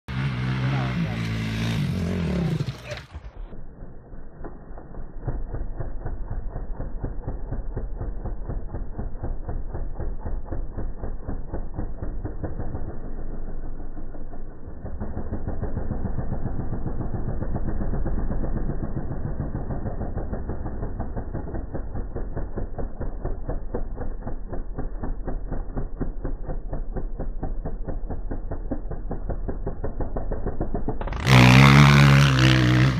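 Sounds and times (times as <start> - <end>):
dirt bike engine: 0.1 - 32.9.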